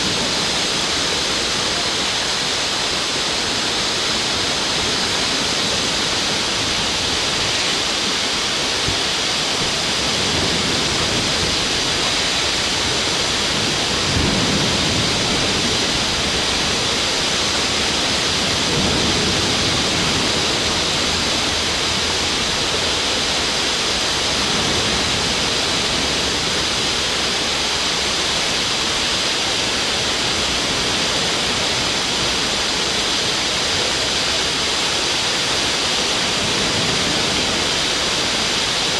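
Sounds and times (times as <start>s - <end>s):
rough sea with breaking waves: 0.0s - 38.9s.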